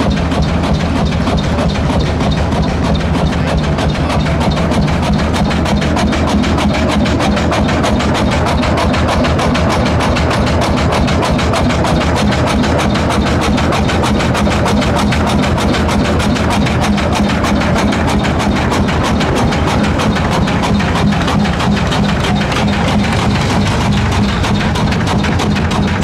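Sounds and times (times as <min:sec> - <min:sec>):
tractor engine knocking: 0:00.0 - 0:26.0.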